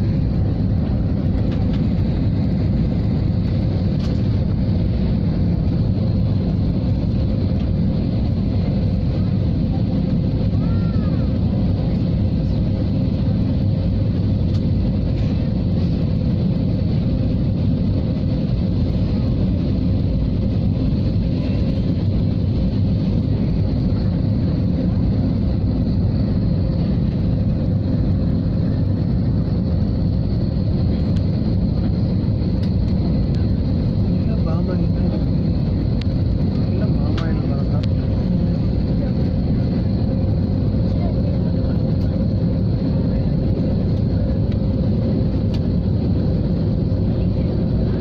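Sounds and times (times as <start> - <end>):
jet engines and airflow rumble: 0.0 - 48.0.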